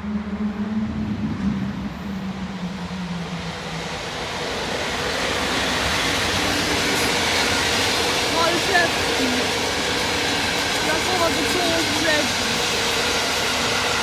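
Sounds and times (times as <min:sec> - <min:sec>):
train rushing on rails: 0:00.0 - 0:14.0.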